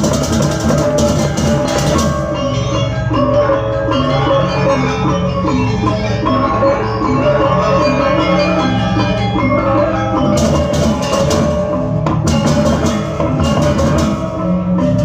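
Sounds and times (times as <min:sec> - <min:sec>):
drums: 0:00.0 - 0:07.7, 0:08.4 - 0:15.0
gong-chimes and metallophones ringing: 0:00.0 - 0:15.0.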